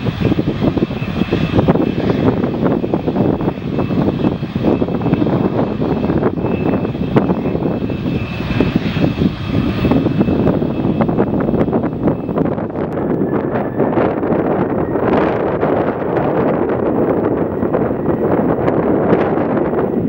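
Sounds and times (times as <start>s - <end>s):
faint high engine whine: 0.0s - 20.0s
jet airliner engines rumbling: 0.0s - 20.0s.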